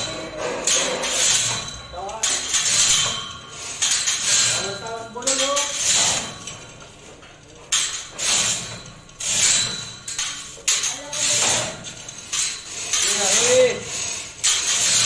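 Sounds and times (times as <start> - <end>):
chain hoist rattling and clinking: 0.0 - 15.0.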